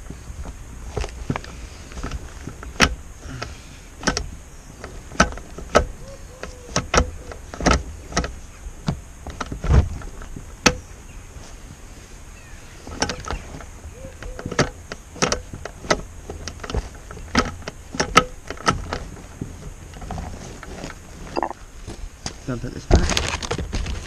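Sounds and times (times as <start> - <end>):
gear lever clicking and clunking: 0.0 - 10.9, 12.8 - 21.6.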